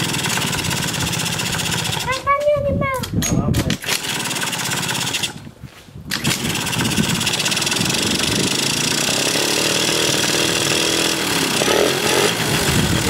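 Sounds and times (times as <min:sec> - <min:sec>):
two-stroke scooter engine running: 0:00.0 - 0:02.2, 0:03.8 - 0:05.4, 0:06.1 - 0:13.0.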